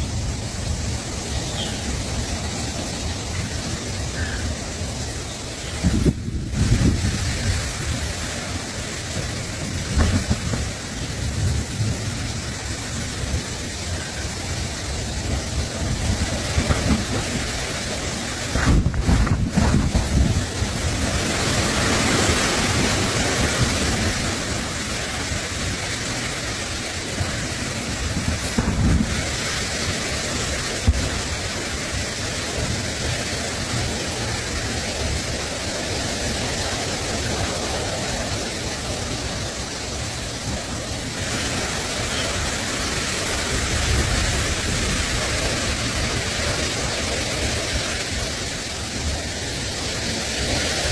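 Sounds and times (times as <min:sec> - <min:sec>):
steady outdoor hiss: 0:00.0 - 0:50.9
wind gusts on microphone: 0:00.0 - 0:50.9.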